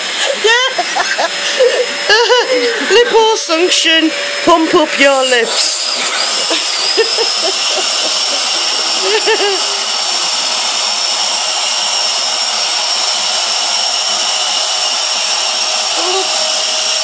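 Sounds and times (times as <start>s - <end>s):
vacuum cleaner whining rush: 0.0s - 17.0s.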